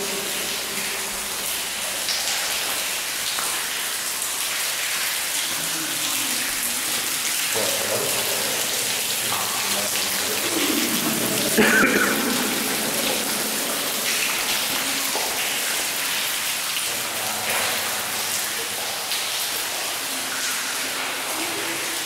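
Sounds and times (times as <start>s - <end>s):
water dripping in tunnel: 0.0s - 22.0s.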